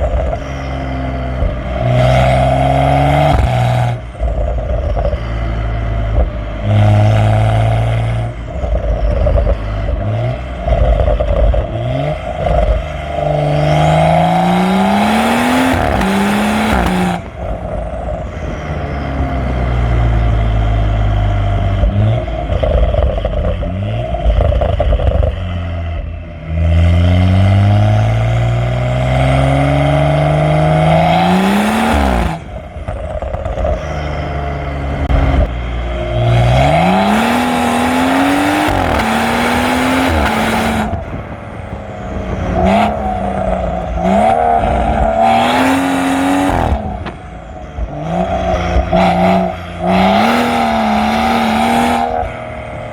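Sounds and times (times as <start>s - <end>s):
car exhaust revving: 0.0s - 52.9s.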